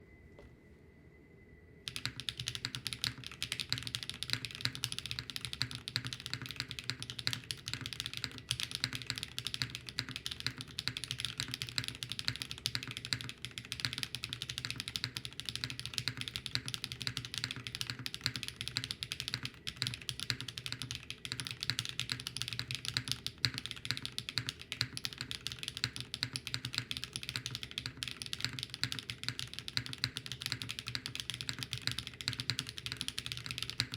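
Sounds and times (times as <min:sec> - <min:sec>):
mechanical keyboard typing: 0:01.9 - 0:33.9.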